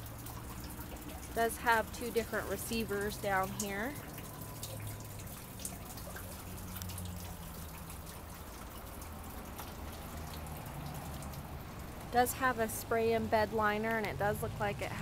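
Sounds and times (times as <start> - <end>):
rainwater dripping and trickling: 0.0 - 15.0.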